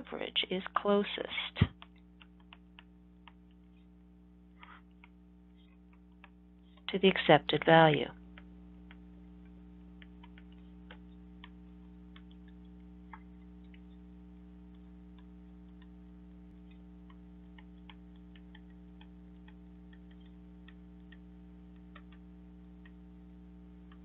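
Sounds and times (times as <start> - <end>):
low electrical hum: 0.0 - 24.0
stylus tapping screen: 1.6 - 7.0, 8.2 - 24.0.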